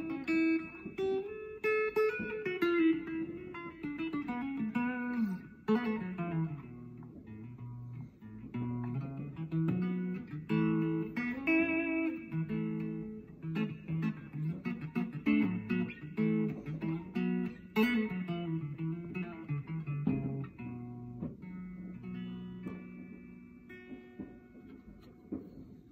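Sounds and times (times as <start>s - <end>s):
electric guitar playing: 0.0s - 25.9s.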